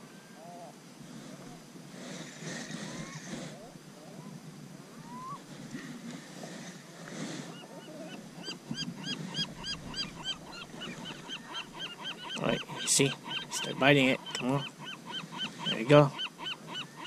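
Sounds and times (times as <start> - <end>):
low rumble of wind: 0.0 - 14.8
water: 0.0 - 17.0.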